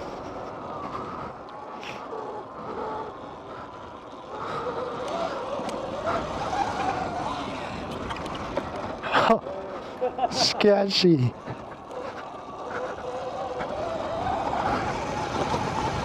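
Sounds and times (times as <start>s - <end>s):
wind rush and rumble: 0.0s - 10.6s, 11.2s - 16.0s
dirt bike motor whine: 0.0s - 16.0s.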